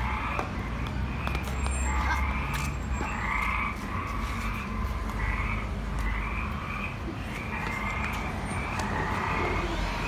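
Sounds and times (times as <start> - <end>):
frogs croaking: 0.0 - 10.0.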